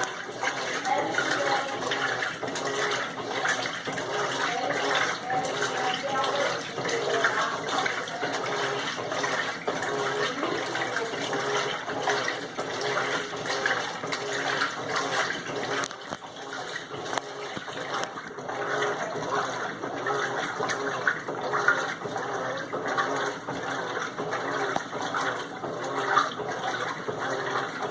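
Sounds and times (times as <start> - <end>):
washing machine water churning: 0.0 - 27.9.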